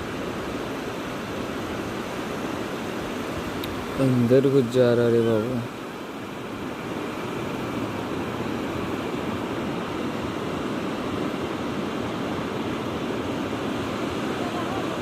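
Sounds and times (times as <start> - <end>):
sea surf washing on shore: 0.0 - 15.0.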